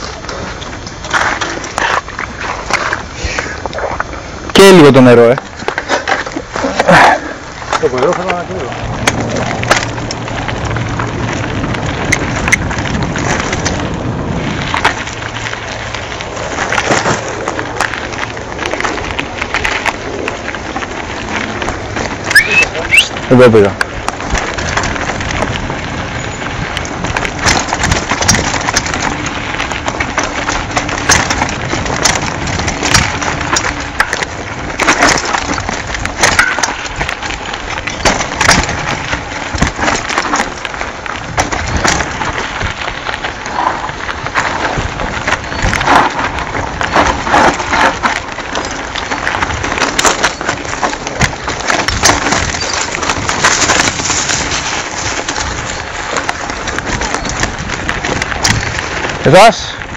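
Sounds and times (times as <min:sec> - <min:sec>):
bike rattling: 0:00.0 - 0:59.9
tyres crunching on gravel: 0:00.0 - 0:59.9.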